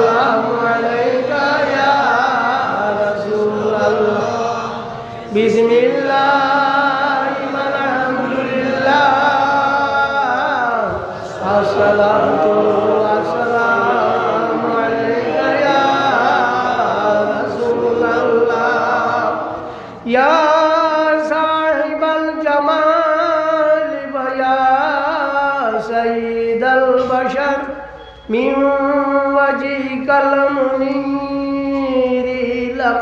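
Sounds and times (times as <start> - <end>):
man chanting: 0.0 - 33.0.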